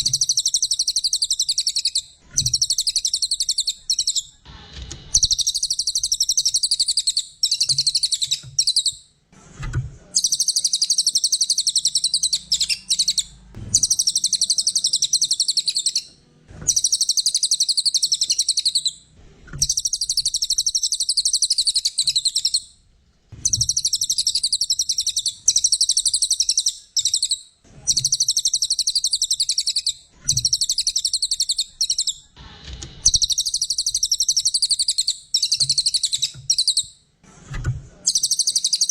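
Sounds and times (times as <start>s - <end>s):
songbird chattering song: 0.0s - 4.3s, 5.2s - 9.0s, 10.2s - 16.1s, 16.7s - 19.0s, 19.6s - 22.7s, 23.4s - 32.2s, 33.1s - 36.9s, 38.1s - 38.9s.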